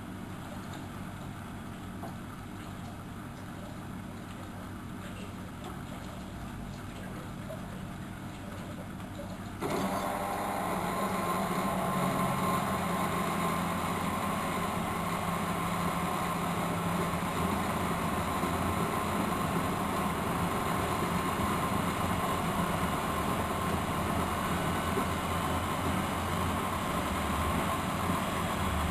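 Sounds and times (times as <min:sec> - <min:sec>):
washing machine drum motor humming: 0:00.0 - 0:28.9.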